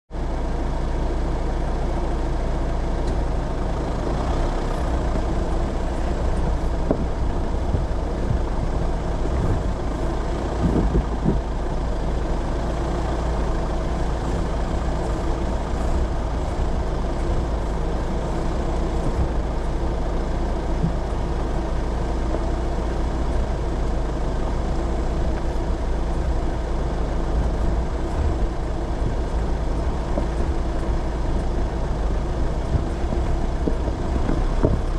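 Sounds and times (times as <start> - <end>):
off-road vehicle engine: 0.1 - 34.9
vehicle knocks and jolts: 4.7 - 11.8, 13.0 - 34.9.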